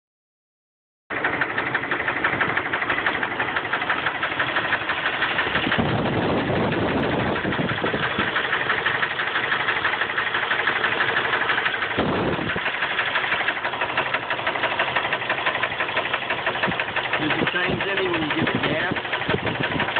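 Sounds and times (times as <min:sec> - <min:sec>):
engine idling: 0:01.1 - 0:19.9
fast regular ticking: 0:01.2 - 0:19.9.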